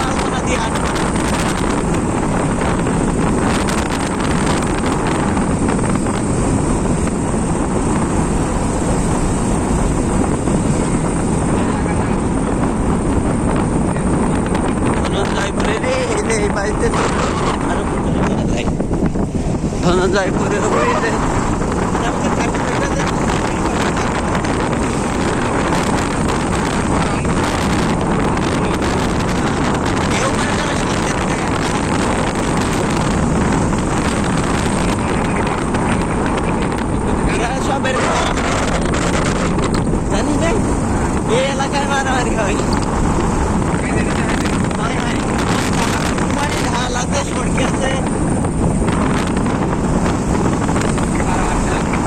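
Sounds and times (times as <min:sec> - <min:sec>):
motorcycle engine and road noise: 0:00.0 - 0:52.0
wind buffeting on microphone: 0:00.0 - 0:52.0.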